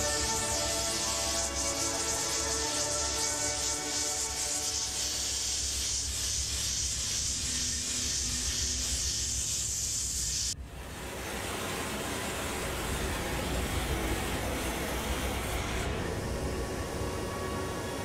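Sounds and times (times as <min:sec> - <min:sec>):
high hiss: 0:00.0 - 0:18.0.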